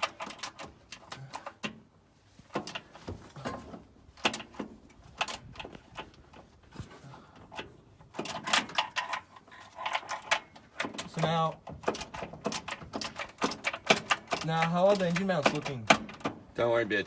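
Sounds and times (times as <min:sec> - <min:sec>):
metal parts and tools clunking: 0:00.0 - 0:17.0.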